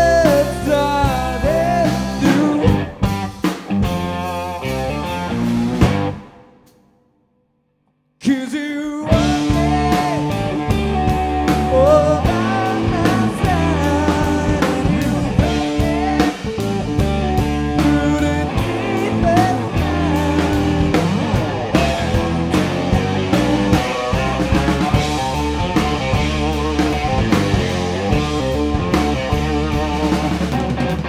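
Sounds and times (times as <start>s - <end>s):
steady drum beat: 0.0s - 6.8s, 9.1s - 31.0s
bass guitar: 0.0s - 6.9s, 9.0s - 31.0s
lead electric guitar bending: 0.0s - 6.9s, 9.1s - 31.0s.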